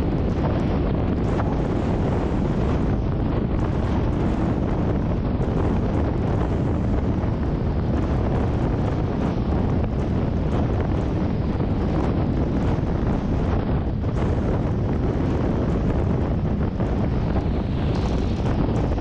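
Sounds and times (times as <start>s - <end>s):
car road and wind noise: 0.0s - 19.0s.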